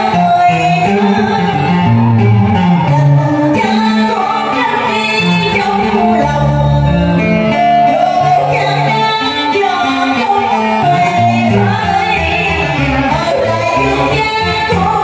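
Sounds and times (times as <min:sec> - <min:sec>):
instrumental accompaniment: 0:00.0 - 0:15.0
woman singing into microphone: 0:00.0 - 0:15.0.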